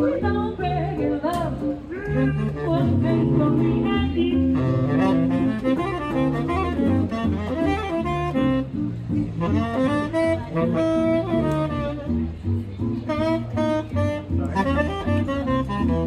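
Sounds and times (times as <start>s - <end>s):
upright bass: 0.0s - 16.0s
tenor saxophone melody: 2.0s - 16.0s.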